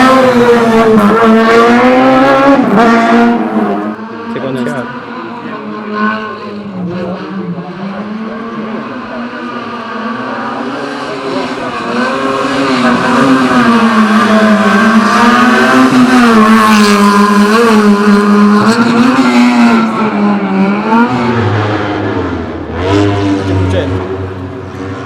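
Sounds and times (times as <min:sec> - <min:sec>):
race car engine at high revs: 0:00.0 - 0:25.0.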